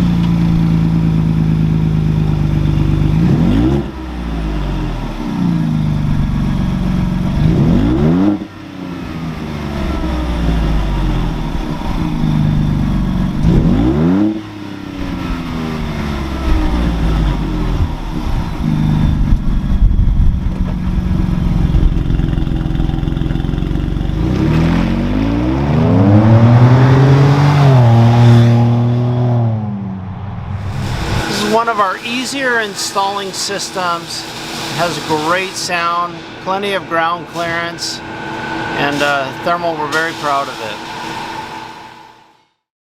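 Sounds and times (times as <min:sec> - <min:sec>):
car engine revving: 0:00.0 - 0:42.1.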